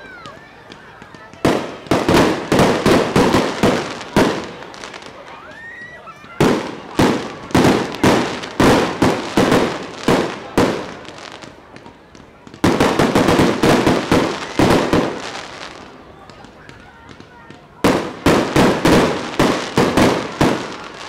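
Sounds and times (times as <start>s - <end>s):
fireworks bursting with sharp bangs: 0.0s - 21.0s.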